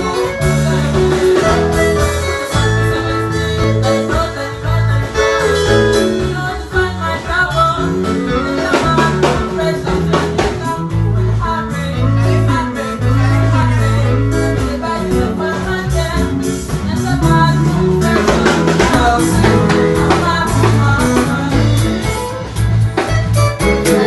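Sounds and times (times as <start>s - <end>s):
person singing: 0.0s - 24.0s
song with bass drums and guitar: 0.0s - 24.0s.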